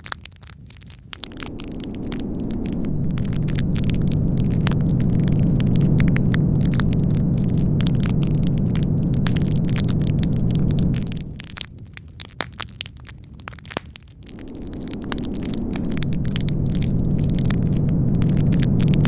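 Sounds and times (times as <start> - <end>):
light crackling: 0.0 - 19.0
blizzard wind rumbling: 0.4 - 19.0.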